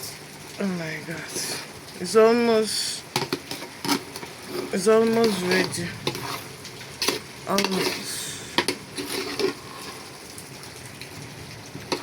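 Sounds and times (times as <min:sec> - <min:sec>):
spaghetti sizzling in oil: 0:01.2 - 0:12.0.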